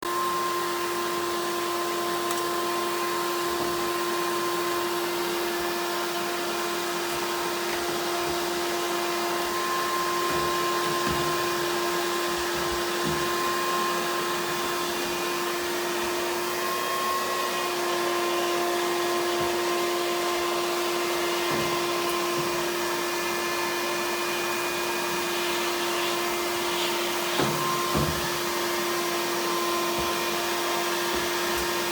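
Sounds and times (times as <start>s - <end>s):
vacuum motor whining: 0.0s - 31.9s.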